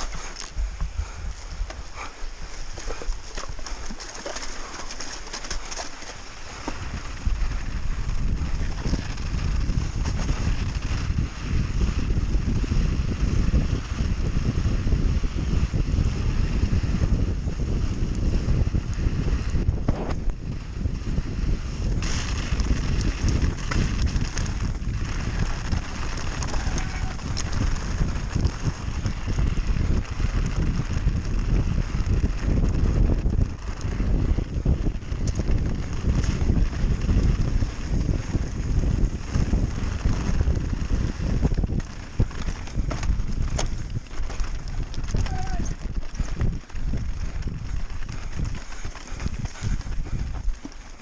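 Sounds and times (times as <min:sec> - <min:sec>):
bike rattling on rough ground: 0:00.0 - 0:51.0
wind buffeting microphone: 0:00.0 - 0:51.0.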